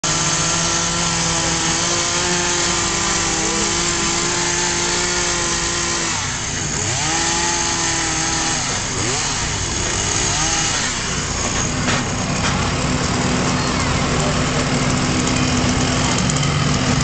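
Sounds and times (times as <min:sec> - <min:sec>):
chainsaw running at high revs: 0:00.0 - 0:17.0.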